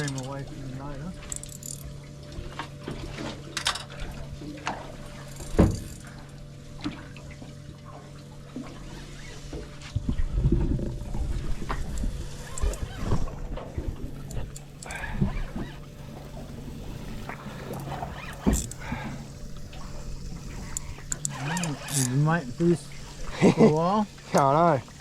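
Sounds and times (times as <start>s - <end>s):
steady low hum: 0.0s - 25.0s
water splashing around boat: 0.0s - 25.0s.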